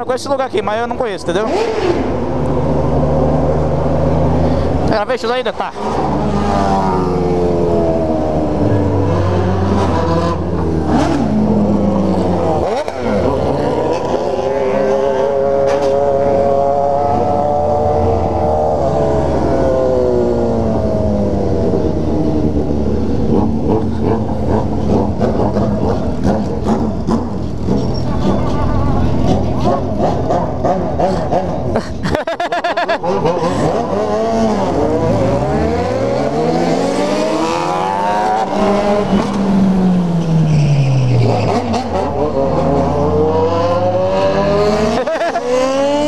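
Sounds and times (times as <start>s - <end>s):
motorcycle engine revving: 0.0s - 31.8s, 32.4s - 46.0s.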